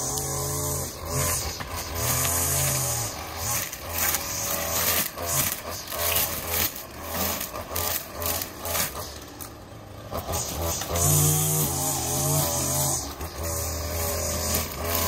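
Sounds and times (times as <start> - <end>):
line scraping wood and debris: 0.0 - 15.0
string trimmer revving: 0.0 - 15.0.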